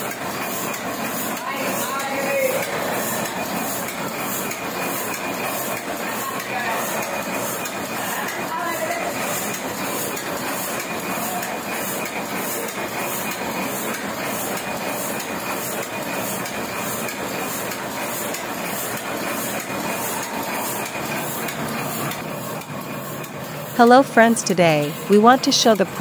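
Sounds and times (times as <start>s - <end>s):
printing press clattering: 0.0s - 26.0s.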